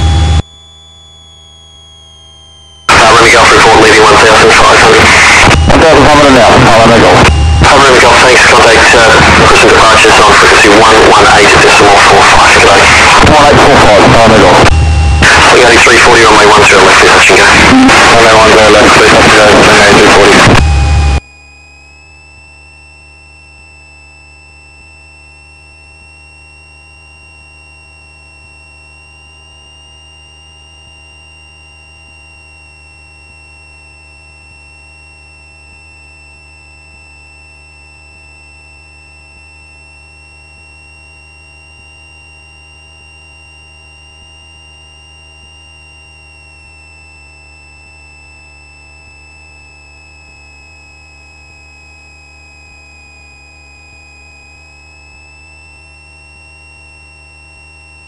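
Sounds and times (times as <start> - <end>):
high even whine: 0.0 - 58.0.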